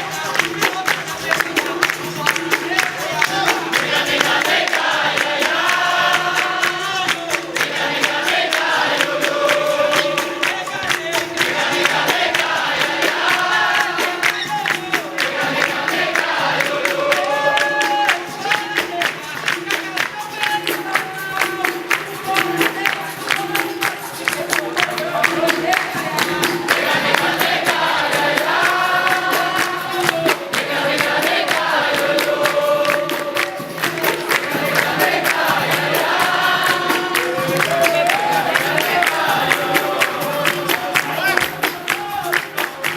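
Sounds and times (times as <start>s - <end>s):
group singing: 0.0s - 42.9s
hand claps: 0.0s - 42.9s
percussion: 0.0s - 42.9s.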